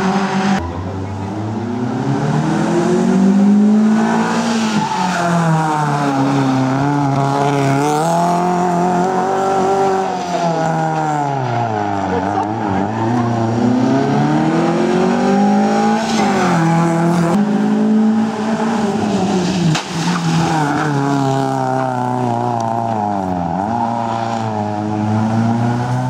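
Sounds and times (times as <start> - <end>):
car engine revving hard: 1.3 - 19.6, 20.3 - 26.0.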